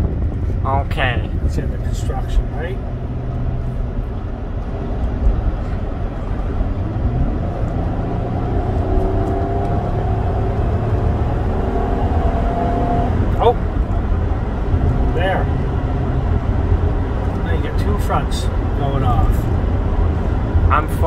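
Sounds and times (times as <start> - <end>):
vehicle engine and tyre rumble: 0.0 - 21.0.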